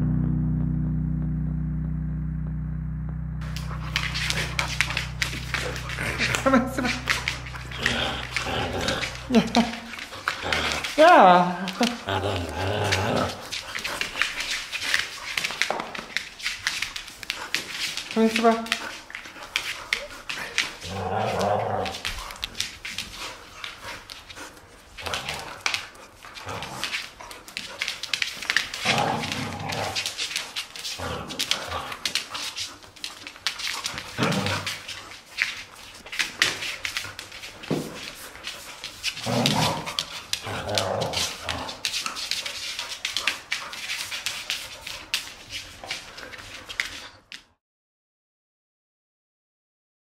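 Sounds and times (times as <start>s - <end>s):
claws scrabbling on hard floor: 3.6s - 47.1s.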